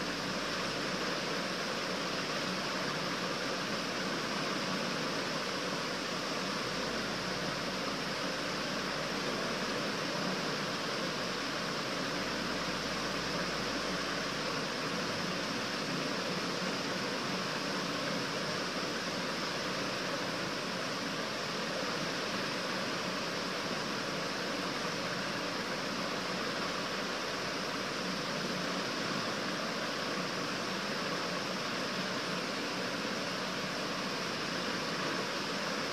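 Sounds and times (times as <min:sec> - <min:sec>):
background hiss: 0:00.0 - 0:35.9.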